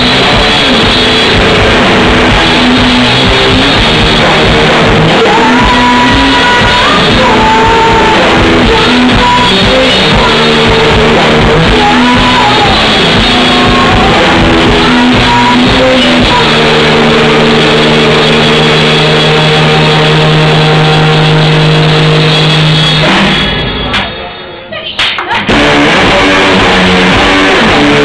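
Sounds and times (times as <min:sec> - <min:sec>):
electric guitar: 0:00.0 - 0:24.2, 0:25.3 - 0:28.0
live rock music: 0:00.0 - 0:24.5, 0:25.1 - 0:28.0
drums: 0:00.0 - 0:28.0.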